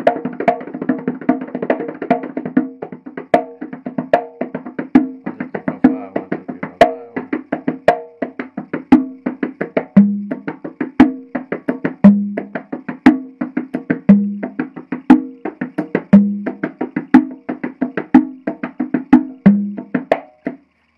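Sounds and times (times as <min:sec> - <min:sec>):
congas played by hand: 0:00.0 - 0:20.8.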